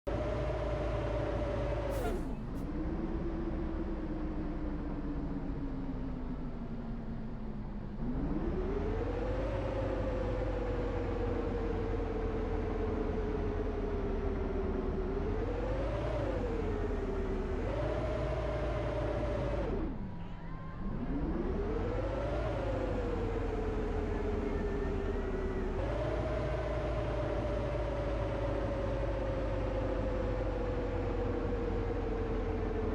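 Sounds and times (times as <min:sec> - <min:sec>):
bus drivetrain whine: 0:00.1 - 0:32.9
low engine rumble: 0:00.1 - 0:32.9.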